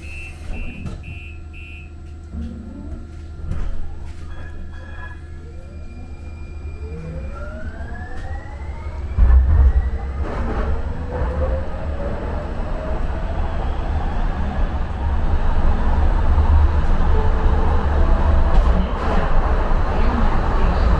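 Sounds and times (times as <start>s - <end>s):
rumble of wheels on rail: 0.0s - 20.9s
traction motors whining: 3.2s - 20.9s.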